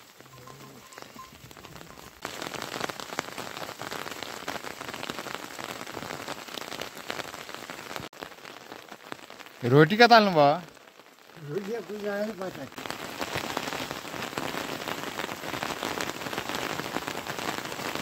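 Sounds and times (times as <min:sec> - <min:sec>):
rain pattering: 0:00.0 - 0:18.0
raindrops ticking on plastic tarpaulin: 0:00.0 - 0:18.0.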